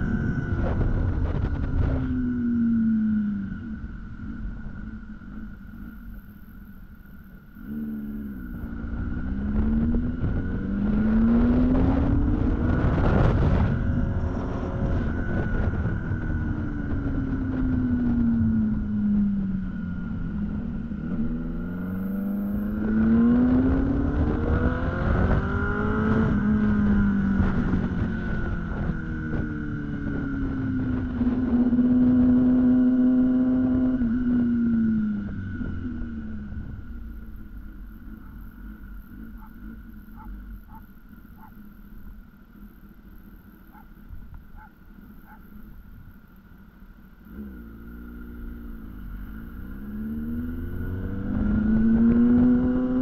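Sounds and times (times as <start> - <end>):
wind rushing over microphone: 0.0 - 6.7, 7.6 - 46.3, 47.3 - 53.0
motorcycle engine revving: 0.0 - 53.0.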